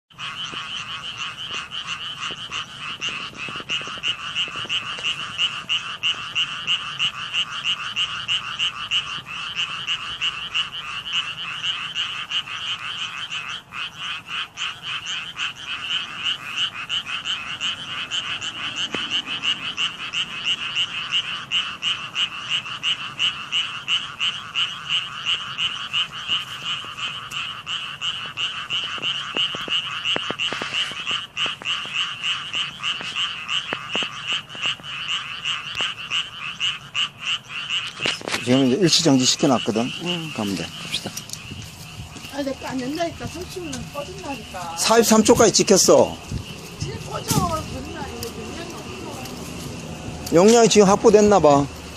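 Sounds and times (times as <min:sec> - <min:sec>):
chorus of frogs calling: 0:00.1 - 0:51.9.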